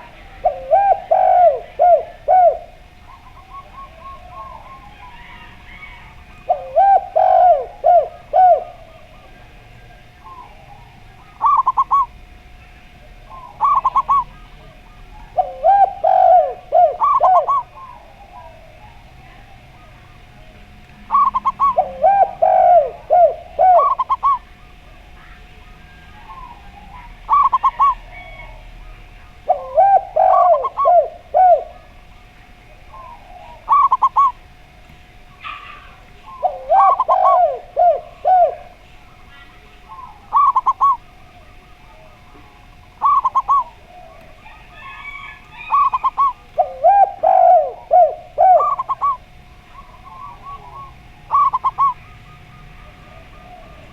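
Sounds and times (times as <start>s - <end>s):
dove cooing high: 0.0s - 53.9s
dove cooing low: 0.0s - 53.9s.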